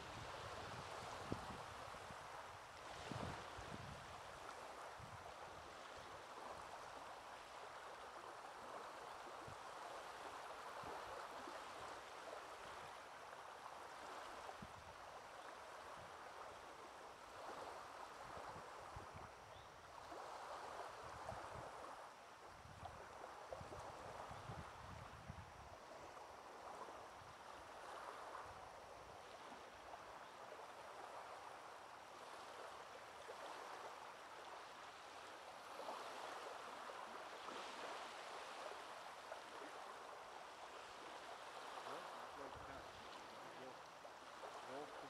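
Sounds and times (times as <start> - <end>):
wavelets lapping on pebbly shore: 0.0 - 45.0.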